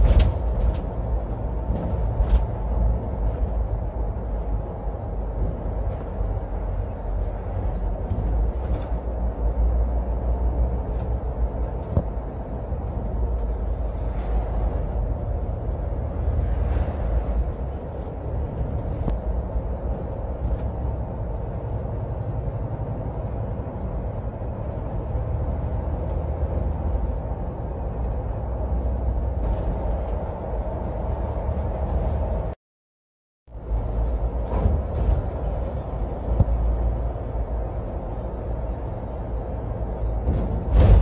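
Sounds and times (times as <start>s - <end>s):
bus engine drone: 0.0s - 32.6s, 33.5s - 41.0s
road rumble: 0.0s - 32.6s, 33.5s - 41.0s.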